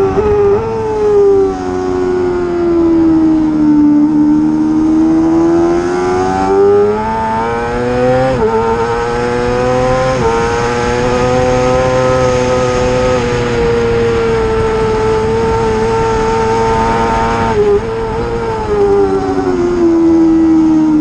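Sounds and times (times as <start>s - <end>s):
racing motorcycle engine high revs: 0.0s - 21.0s.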